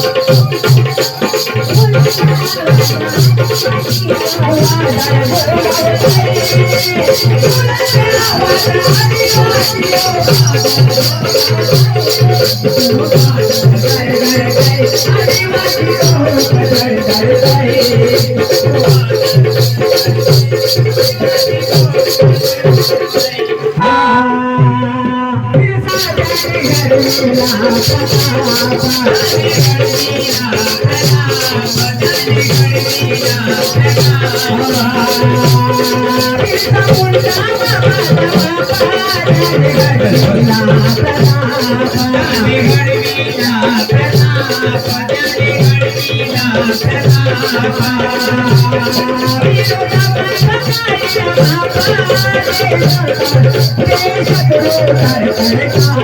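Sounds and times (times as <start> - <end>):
low drum beat: 0.0 - 22.9, 23.7 - 50.6
shaker ticking: 0.0 - 23.5, 25.9 - 56.0.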